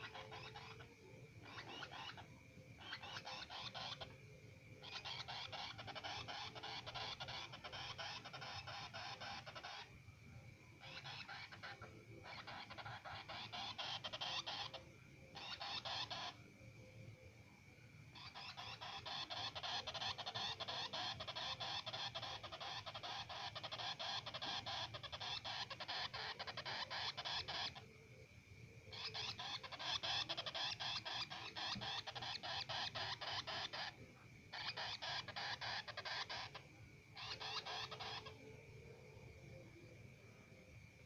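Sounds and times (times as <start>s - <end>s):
bird harsh chattering call: 0.0s - 4.2s, 4.8s - 9.9s, 10.8s - 16.4s, 18.2s - 27.8s, 28.9s - 36.6s, 37.2s - 38.4s.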